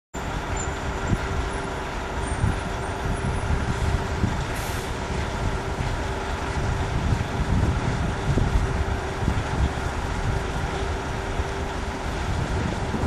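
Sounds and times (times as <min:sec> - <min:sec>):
distant railcar rumble: 0:00.2 - 0:13.0
wind buffeting microphone: 0:00.3 - 0:13.0.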